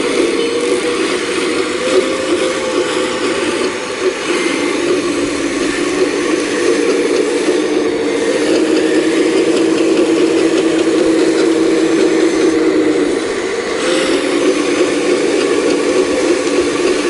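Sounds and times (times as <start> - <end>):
excavator engine and hydraulic drone: 0.0 - 17.0.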